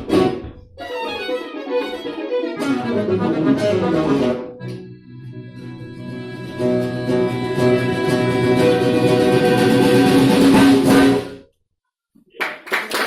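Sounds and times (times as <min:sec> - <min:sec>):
live string ensemble music: 0:00.0 - 0:11.4.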